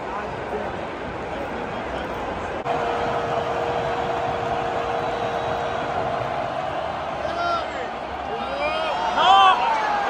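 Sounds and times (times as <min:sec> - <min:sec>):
stadium crowd din: 0:00.0 - 0:10.0.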